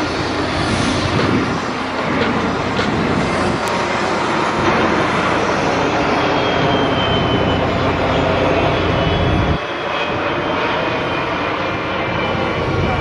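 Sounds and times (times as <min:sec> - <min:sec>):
faint high jet whine: 0:00.0 - 0:13.0
jet engines rumbling overhead: 0:00.0 - 0:13.0.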